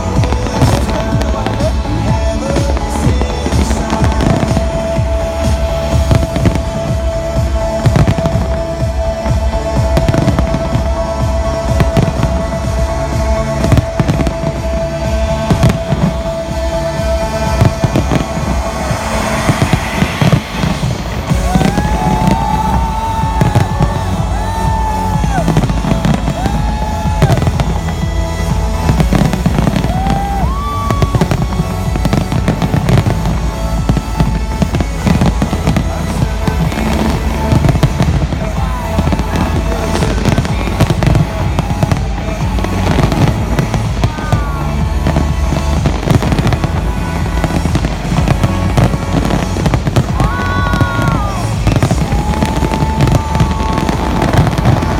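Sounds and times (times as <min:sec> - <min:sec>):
fireworks bangs and crackles: 0:00.0 - 0:54.9
music playing: 0:00.0 - 0:54.9.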